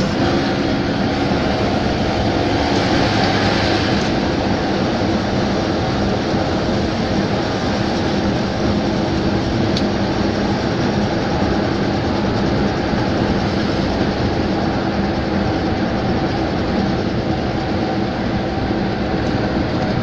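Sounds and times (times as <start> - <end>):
car engine hum: 0.0 - 20.0
tyre and wind roar: 0.0 - 20.0.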